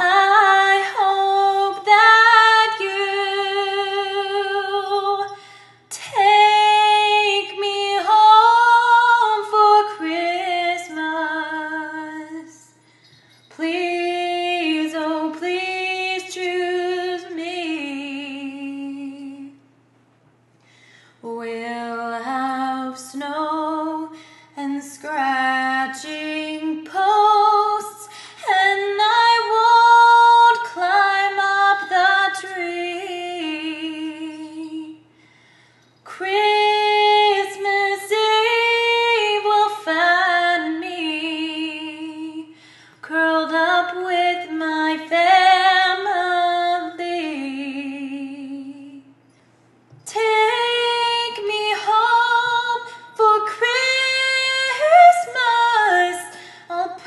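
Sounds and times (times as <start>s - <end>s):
woman singing unaccompanied: 0.0s - 19.7s, 21.2s - 35.1s, 36.1s - 49.2s, 50.0s - 57.0s.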